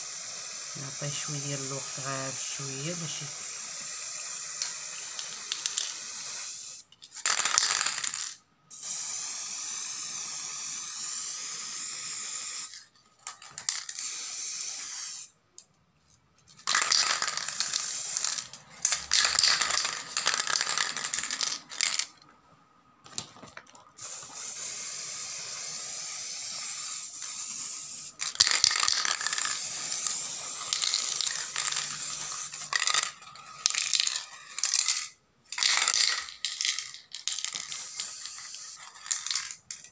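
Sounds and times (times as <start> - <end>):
spray paint can hissing: 0.0 - 12.9, 13.7 - 15.4, 16.6 - 22.1, 24.0 - 39.6.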